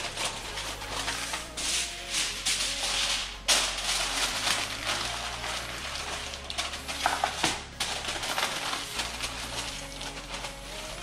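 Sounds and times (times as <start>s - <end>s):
aluminum foil crinkling: 0.0s - 11.0s.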